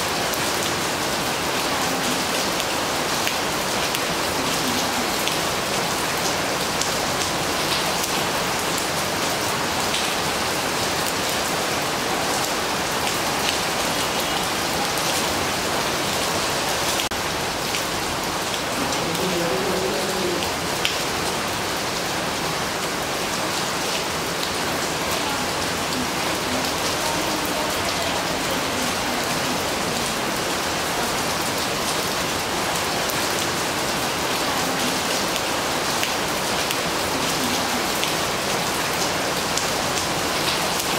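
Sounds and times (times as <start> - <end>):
rain hissing on leaves: 0.0 - 40.9.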